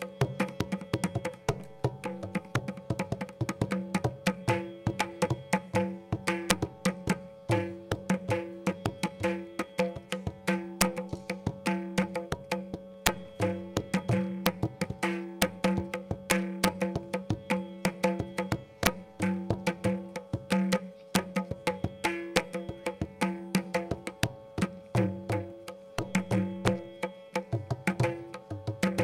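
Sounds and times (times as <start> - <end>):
crisp ringing drum strokes: 3.7 - 29.0.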